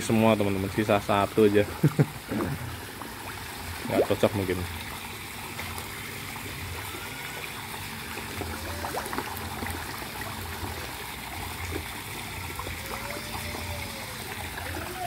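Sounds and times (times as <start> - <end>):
water trickling and bubbling: 0.0 - 15.0
fish splashing: 2.1 - 15.0.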